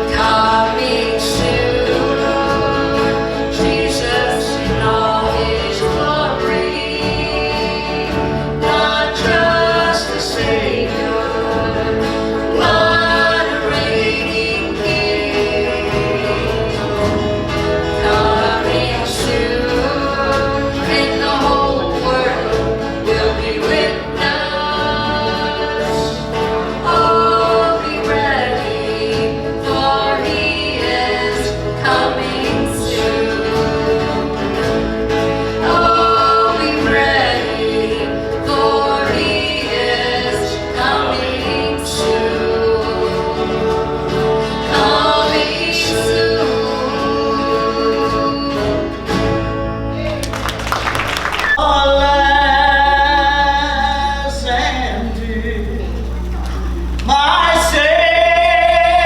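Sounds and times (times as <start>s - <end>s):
voices singing: 0.0s - 59.0s
worship band playing gospel: 0.0s - 59.0s.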